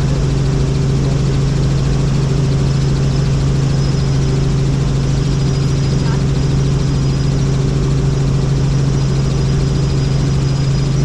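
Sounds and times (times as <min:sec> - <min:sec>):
helicopter rotors and engine drone: 0:00.0 - 0:11.0.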